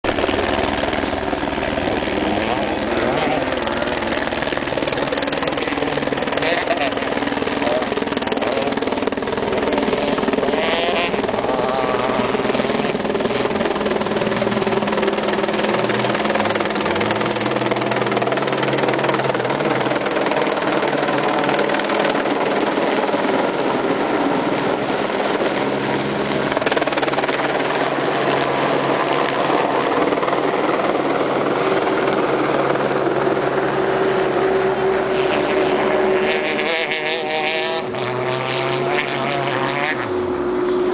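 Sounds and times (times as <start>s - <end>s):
rally cars racing: 0.0s - 40.9s
steady engine drone: 0.0s - 40.9s.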